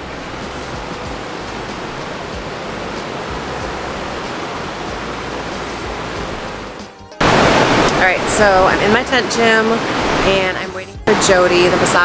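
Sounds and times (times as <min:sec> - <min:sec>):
electric fan rushing: 0:00.0 - 0:12.0.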